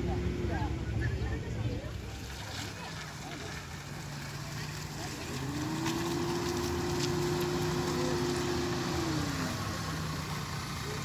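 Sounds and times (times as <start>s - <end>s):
engine running: 0.0s - 11.0s
engine whine: 0.0s - 11.0s.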